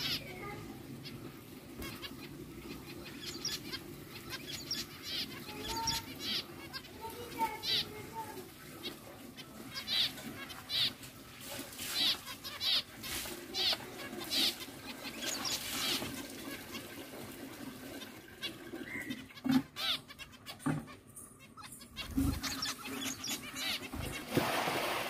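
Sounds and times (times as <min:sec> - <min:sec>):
finches beeping calls: 0:00.0 - 0:11.0, 0:11.8 - 0:16.8, 0:18.3 - 0:24.3.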